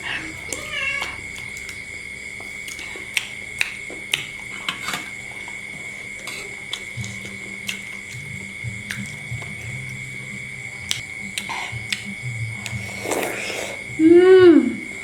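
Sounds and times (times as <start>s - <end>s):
mouth and utensil eating noises: 0.0s - 15.0s.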